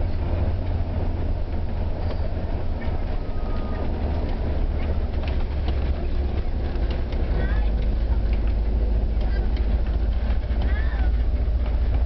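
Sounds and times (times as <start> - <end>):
bus engine and tyre rumble: 0.0 - 12.0.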